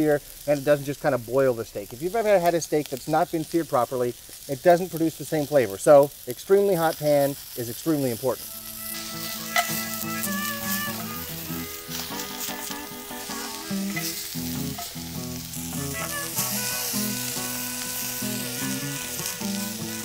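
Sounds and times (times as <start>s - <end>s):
steaks sizzling in a skillet: 0.0s - 20.0s.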